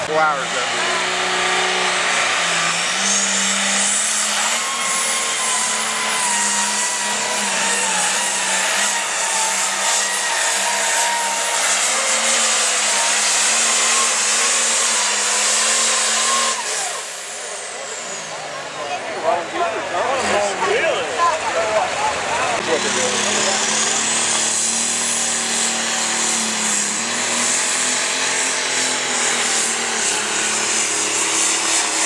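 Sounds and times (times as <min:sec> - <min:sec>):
diesel engine at full throttle: 0:00.0 - 0:32.0.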